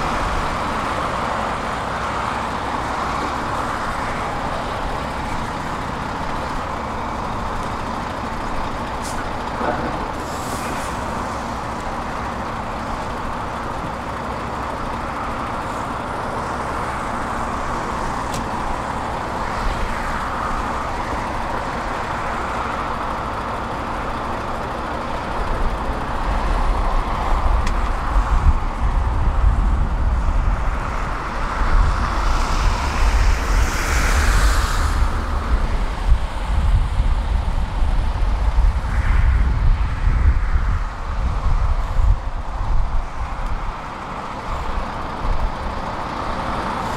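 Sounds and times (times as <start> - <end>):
diesel engines running: 0.0 - 46.9
heavy low rumble: 0.0 - 46.9.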